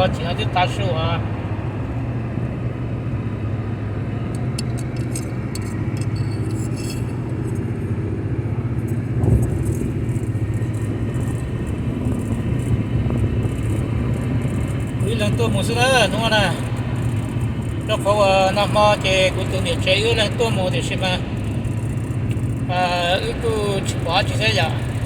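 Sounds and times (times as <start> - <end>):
vehicle engine and road drone: 0.0 - 25.0.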